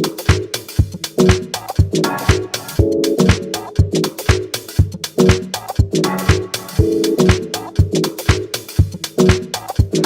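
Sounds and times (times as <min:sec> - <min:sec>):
instrumental dance music: 0:00.0 - 0:10.0.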